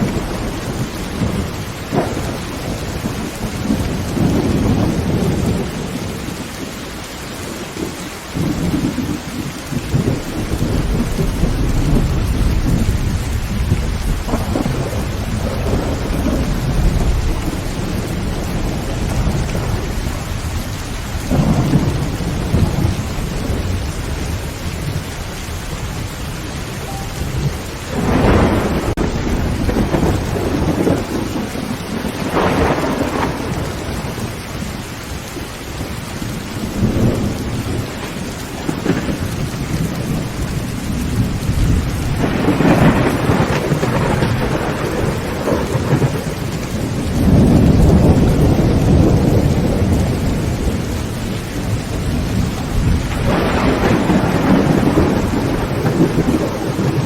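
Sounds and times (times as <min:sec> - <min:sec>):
heavy rain on tin roof: 0:00.0 - 0:57.0
thunder rumbling: 0:00.0 - 0:57.0.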